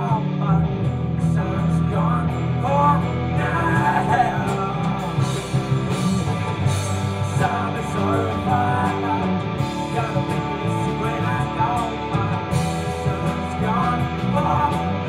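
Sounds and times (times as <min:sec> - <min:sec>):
bass guitar: 0:00.0 - 0:15.0
distorted electric guitars: 0:00.0 - 0:15.0
drum kit: 0:00.0 - 0:15.0
man singing: 0:00.0 - 0:15.0.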